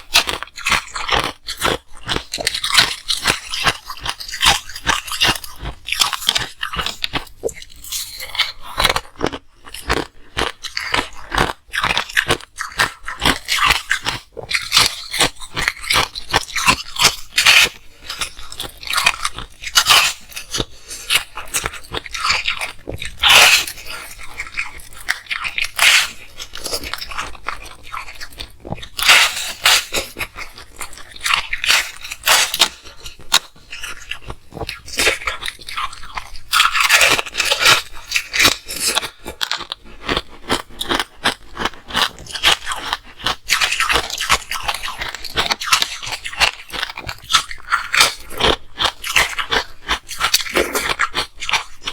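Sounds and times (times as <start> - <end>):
ice crunching being chewed: 0.0 - 51.9.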